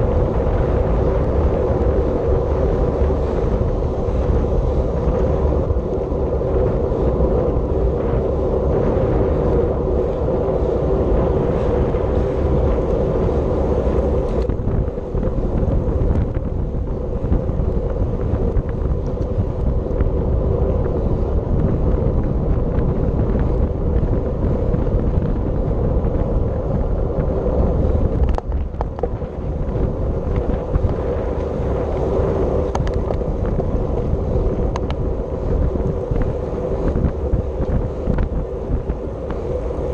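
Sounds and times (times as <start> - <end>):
bicycle hum: 0.0 - 39.9
wind roaring over microphone: 0.0 - 39.9.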